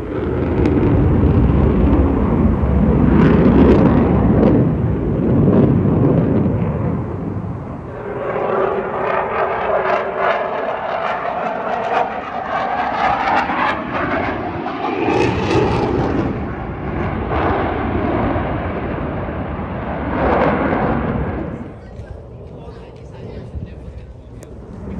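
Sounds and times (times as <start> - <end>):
aeroplane engine droning: 0.0 - 24.9.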